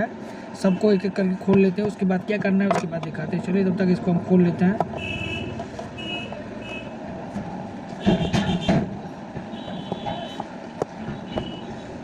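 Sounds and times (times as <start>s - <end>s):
background traffic noise: 0.0s - 12.0s.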